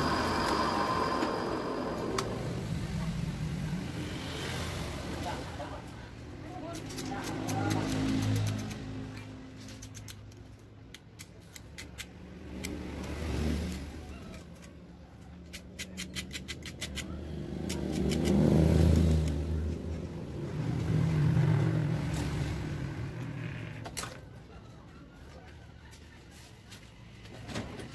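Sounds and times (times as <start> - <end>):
vehicles passing: 0.0 - 10.9, 12.0 - 15.5, 16.8 - 27.3.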